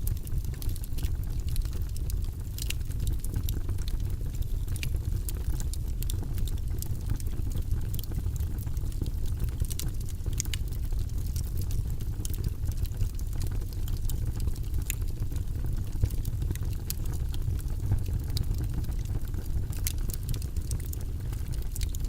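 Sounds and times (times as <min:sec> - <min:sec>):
low fire rumble: 0:00.0 - 0:22.0
wood fire crackling and popping: 0:00.0 - 0:22.0.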